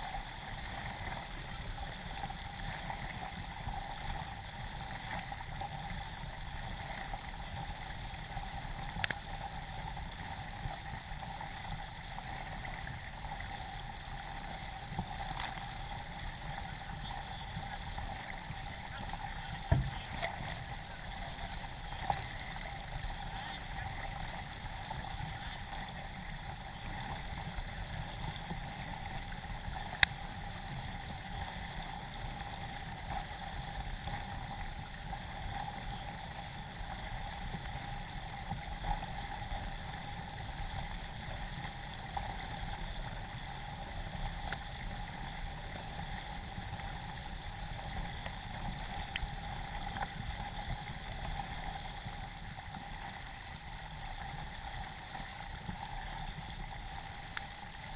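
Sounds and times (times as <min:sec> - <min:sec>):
faint ticks: 0:00.0 - 0:57.9
steady hum: 0:00.0 - 0:57.9.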